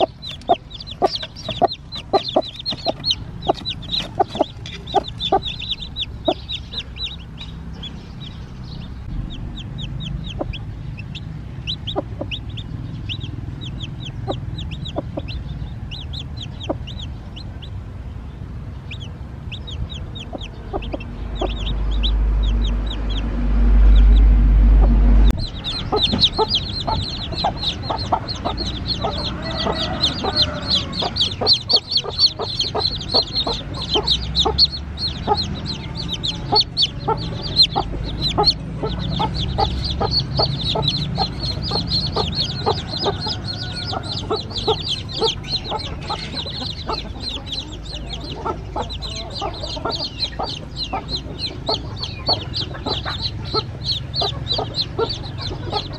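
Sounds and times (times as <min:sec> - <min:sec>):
chicks peeping: 0:00.0 - 0:55.9
loud low rumble: 0:00.0 - 0:55.9.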